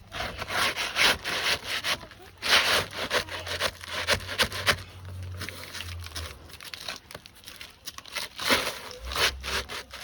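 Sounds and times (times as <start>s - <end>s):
roof shingles scraping: 0.0s - 10.0s.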